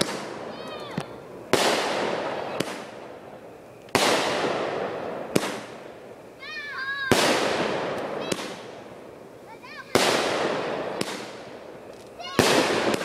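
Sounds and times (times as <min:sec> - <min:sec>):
crackling hiss: 0:00.0 - 0:13.0
firework bangs: 0:00.0 - 0:13.0.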